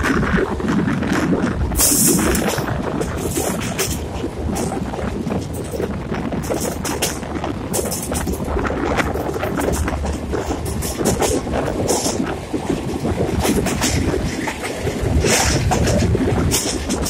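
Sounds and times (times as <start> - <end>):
train wheels clicking on track: 0.0 - 17.0
wind buffeting microphone: 0.0 - 17.0.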